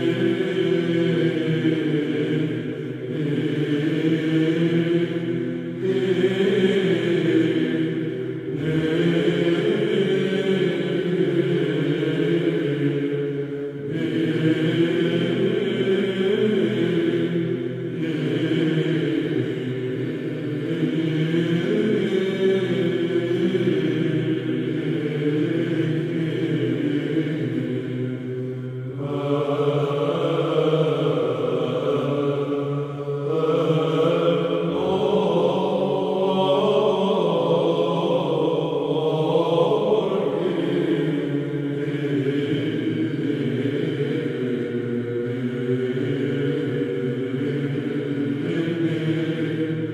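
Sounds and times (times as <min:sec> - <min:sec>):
slow vocal chanting: 0:00.0 - 0:49.9.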